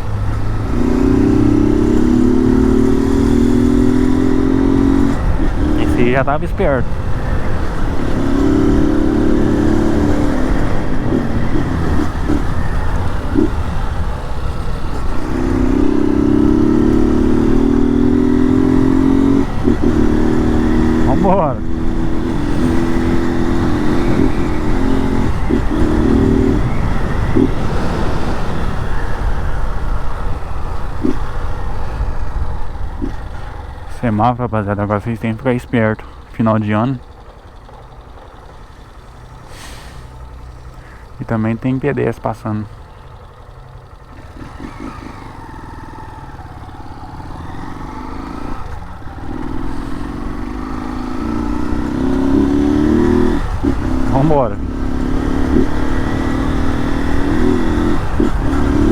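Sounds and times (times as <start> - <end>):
motorcycle engine running: 0.0 - 58.9
road noise: 0.0 - 58.9.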